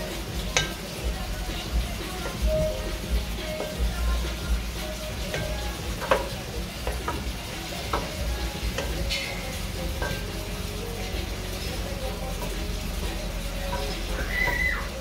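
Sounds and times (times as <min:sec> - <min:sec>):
food sizzling: 0:00.0 - 0:15.0.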